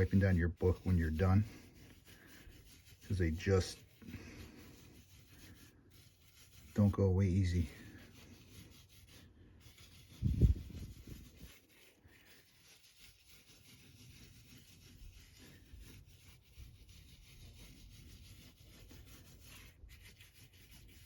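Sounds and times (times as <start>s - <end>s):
eraser crumbs scrubbing paper: 0.0s - 21.0s.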